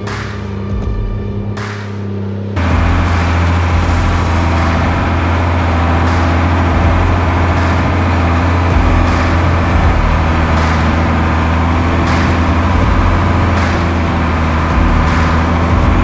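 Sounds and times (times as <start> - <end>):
diesel truck engine running: 2.6 - 16.0.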